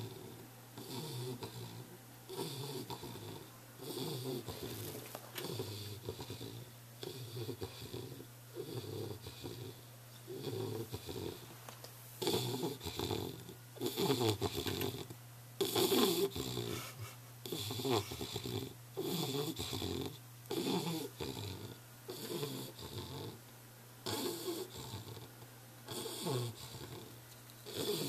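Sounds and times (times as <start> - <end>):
dog snoring: 0.0 - 11.5, 12.2 - 23.4, 24.0 - 28.0.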